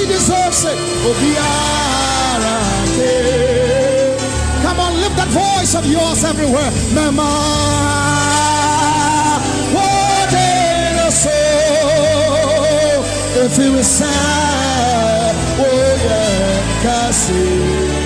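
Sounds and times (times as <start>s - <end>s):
sustained bass notes: 0.0s - 18.0s.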